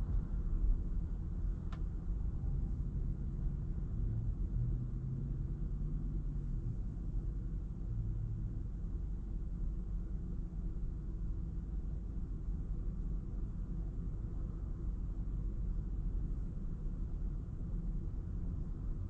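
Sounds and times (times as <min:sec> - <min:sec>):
car driving rumble: 0:00.0 - 0:19.0
faint hum: 0:00.0 - 0:19.0.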